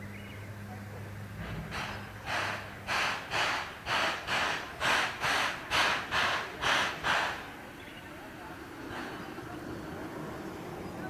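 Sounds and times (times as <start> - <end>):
steam locomotive chuffing: 0.6 - 11.0.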